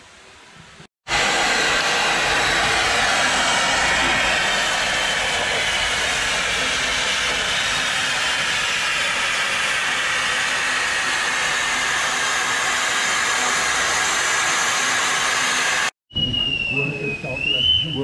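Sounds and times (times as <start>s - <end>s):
steam hissing: 0.6s - 18.0s.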